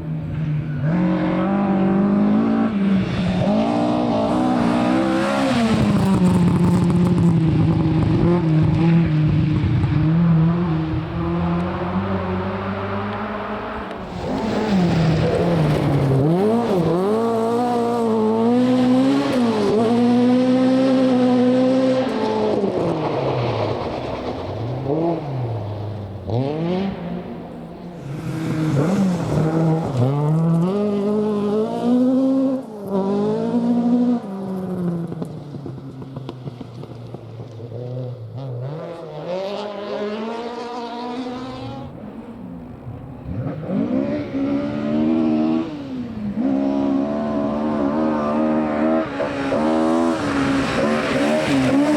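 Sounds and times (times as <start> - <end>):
car engine revving: 0.8 - 37.2, 37.9 - 51.9.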